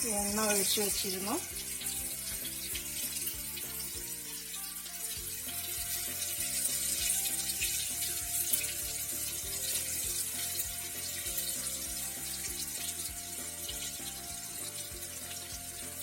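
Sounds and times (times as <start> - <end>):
background music: 0.0 - 16.0
fish sizzling in hot oil: 0.0 - 16.0.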